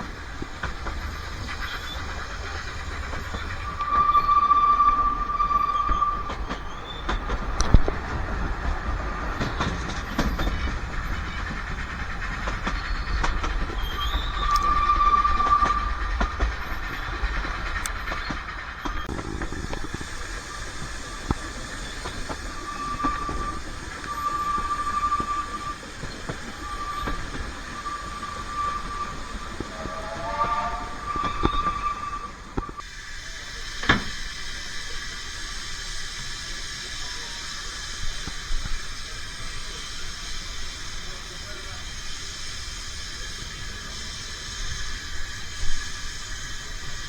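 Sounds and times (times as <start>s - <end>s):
train wheel squeal: 0.0s - 47.0s
train wheels rumbling on track: 0.0s - 47.0s.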